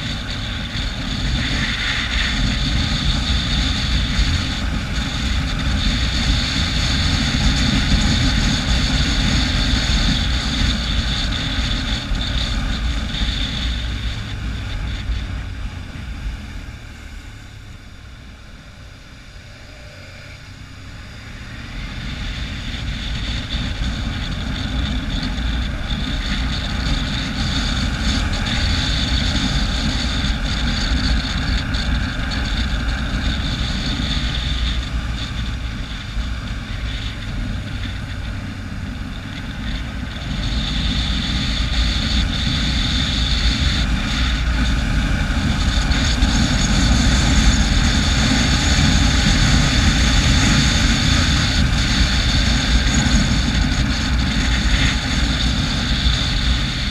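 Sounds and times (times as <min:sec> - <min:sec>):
motorcycle engine running: 0:00.0 - 0:56.9
wind rushing over microphone: 0:00.0 - 0:56.9.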